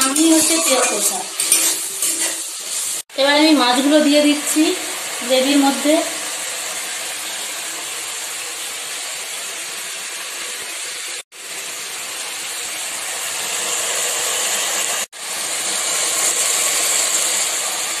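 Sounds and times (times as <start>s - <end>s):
curry sizzling in a pan: 0.0s - 18.0s.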